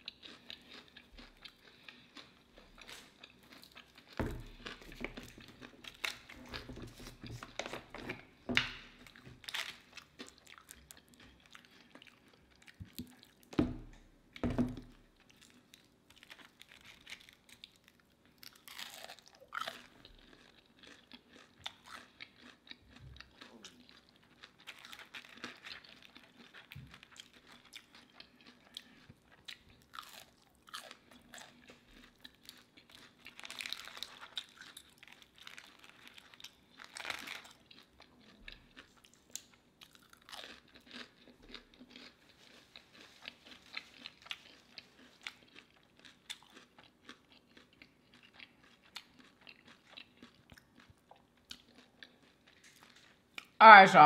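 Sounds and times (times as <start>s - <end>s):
chewing crispy onion rings: 0.0s - 13.6s, 14.9s - 53.9s.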